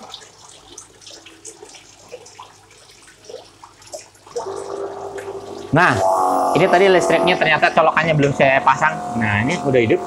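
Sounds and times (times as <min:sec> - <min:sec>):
pump humming: 0:00.0 - 0:10.0.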